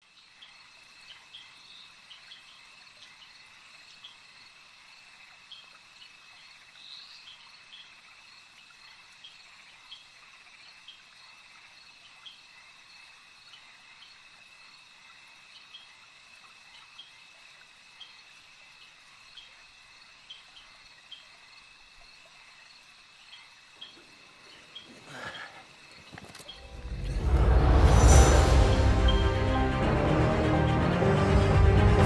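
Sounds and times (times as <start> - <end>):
crickets trilling: 0.1 - 29.3
short insect chirps: 0.1 - 29.3.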